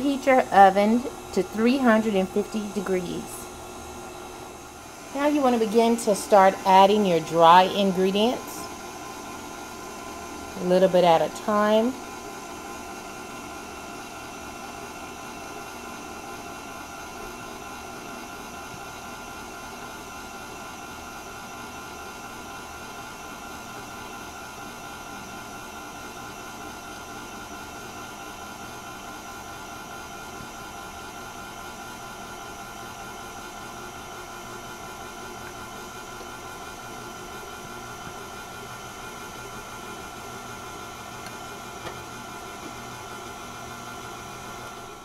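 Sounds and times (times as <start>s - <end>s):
stand mixer motor whirring: 0.0s - 45.0s.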